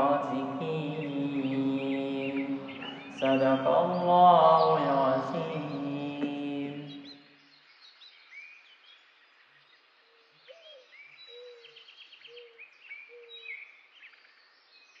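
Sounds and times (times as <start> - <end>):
faint birdsong chirps and whistles: 0.8 - 6.0, 6.8 - 15.0.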